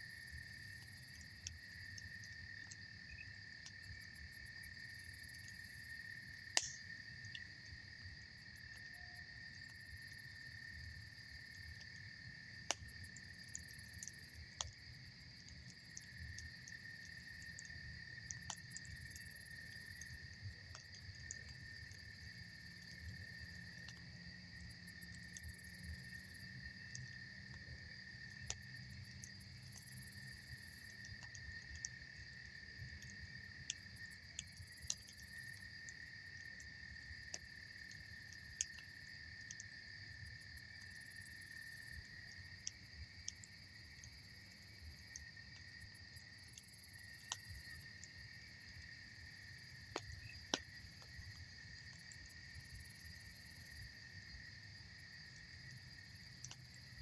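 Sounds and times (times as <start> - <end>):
campfire crackling: 0.0 - 57.0
crickets trilling: 0.0 - 57.0.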